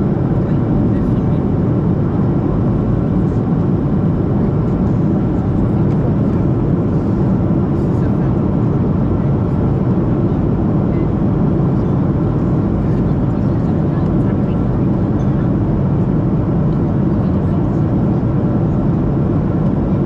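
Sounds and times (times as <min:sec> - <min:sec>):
jet engines low rumble: 0:00.0 - 0:20.0
rushing airflow in cabin: 0:00.0 - 0:20.0.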